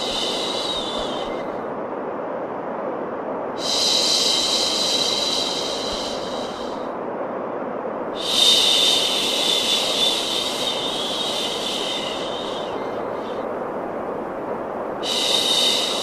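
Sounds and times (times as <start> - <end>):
bright high hiss: 0.0 - 1.7, 3.5 - 7.0, 8.0 - 16.0
white noise hiss: 0.0 - 16.0.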